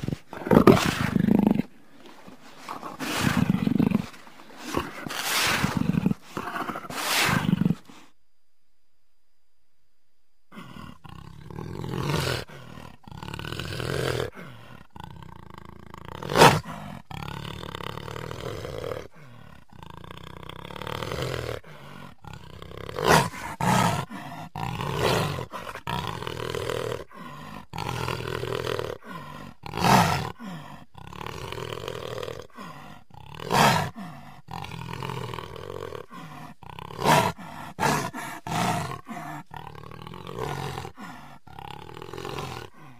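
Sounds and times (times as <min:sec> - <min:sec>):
jaguar roaring: 0:00.0 - 0:02.0, 0:02.6 - 0:08.0, 0:10.5 - 0:42.9.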